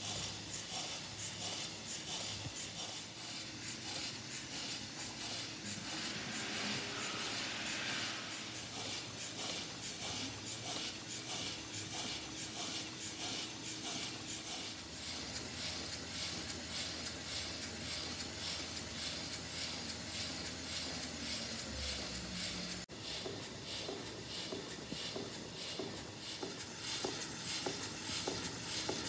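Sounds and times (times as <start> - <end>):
constant hiss: 0.0 - 29.0
exhaust puffing: 0.0 - 29.0
model steam engine running: 0.0 - 29.0.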